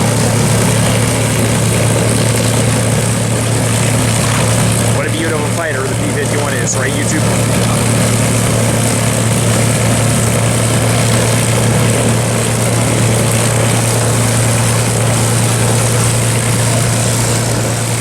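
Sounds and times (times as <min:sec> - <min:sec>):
aircraft piston engine running: 0:00.0 - 0:18.0.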